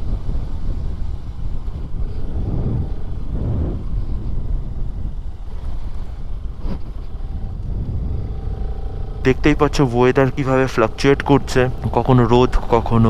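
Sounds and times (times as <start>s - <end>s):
motorcycle engine and road rumble: 0.0s - 13.0s
wind noise on microphone: 0.0s - 13.0s.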